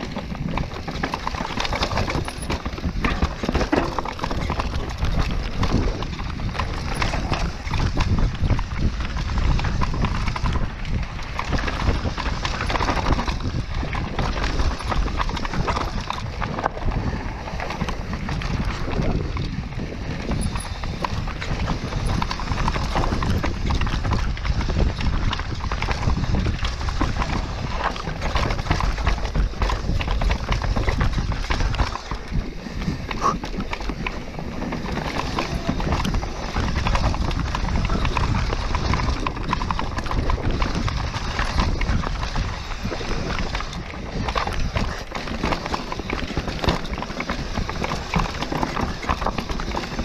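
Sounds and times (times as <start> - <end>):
bike clattering over bumps: 0.0 - 50.0
tyres on dirt and stones: 0.0 - 50.0
wind rumble on microphone: 0.0 - 50.0.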